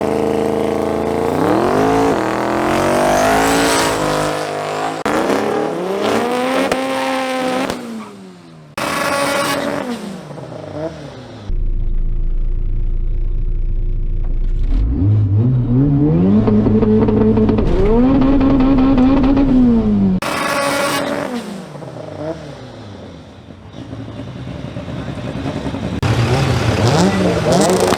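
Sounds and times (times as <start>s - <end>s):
car engines revving hard: 0.0s - 11.5s, 14.5s - 23.0s, 23.7s - 27.9s.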